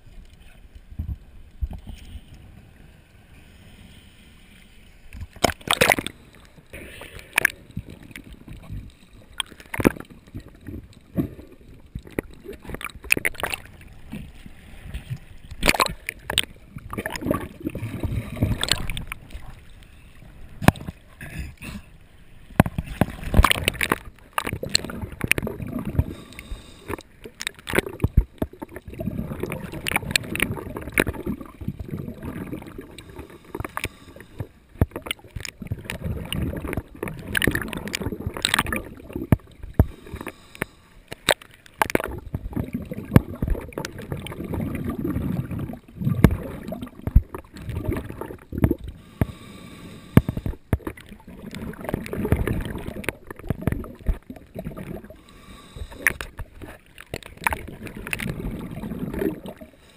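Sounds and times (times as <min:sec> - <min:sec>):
water sloshing and gurgling: 0:00.0 - 0:59.9.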